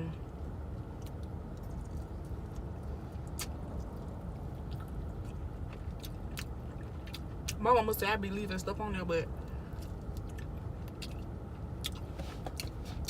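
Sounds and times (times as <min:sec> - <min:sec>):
low rumble inside a car: 0:00.0 - 0:13.0
person chewing: 0:00.3 - 0:07.6, 0:09.6 - 0:13.0.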